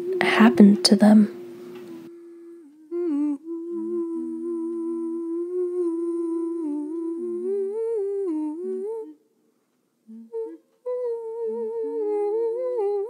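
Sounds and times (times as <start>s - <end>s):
lower humming part: 0.0s - 9.2s, 10.0s - 13.0s
person humming a slow melody: 0.0s - 9.2s, 10.0s - 13.0s.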